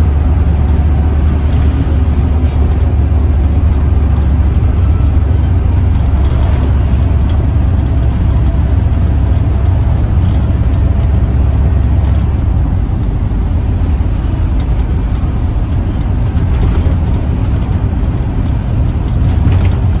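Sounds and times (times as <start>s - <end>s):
diesel drone and road rumble: 0.0s - 20.0s
bodywork rattles: 0.1s - 20.0s.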